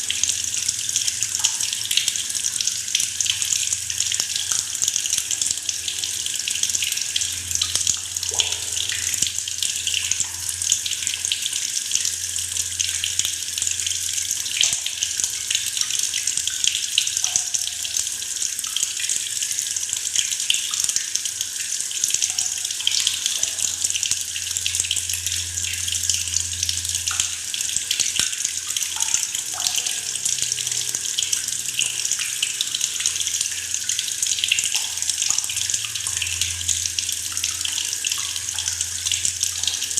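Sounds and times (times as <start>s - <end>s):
tap water pouring into bucket: 0.0s - 39.9s.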